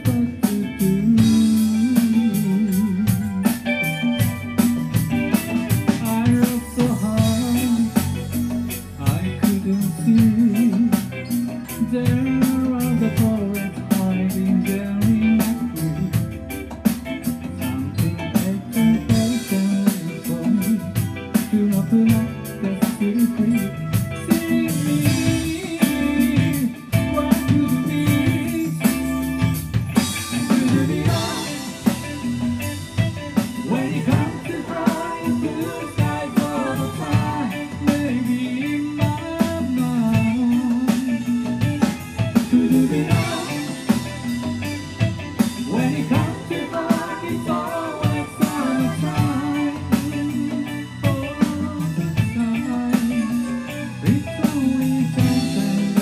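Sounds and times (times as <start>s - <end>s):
bass guitar: 0.0s - 56.0s
drum kit beat: 0.0s - 56.0s
electric guitar: 0.0s - 56.0s.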